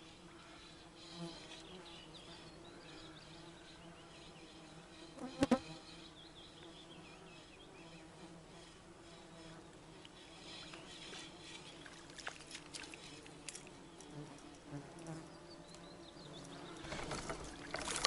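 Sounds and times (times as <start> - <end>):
birds chirping: 0.0 - 18.0
insect buzzing: 0.0 - 18.0.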